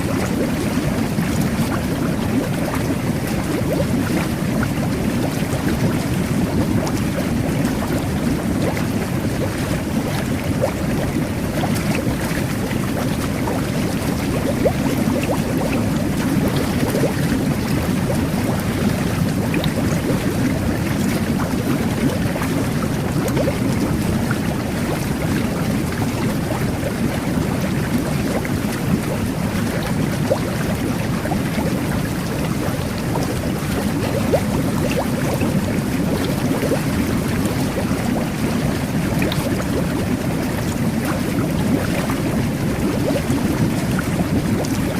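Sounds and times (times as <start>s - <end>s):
bubbles crackling: 0.0s - 44.9s
jet bath water churning: 0.0s - 44.9s.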